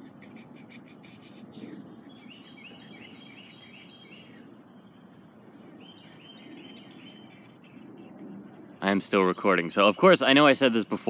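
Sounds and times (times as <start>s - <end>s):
bird singing repeated notes: 0.0s - 10.6s.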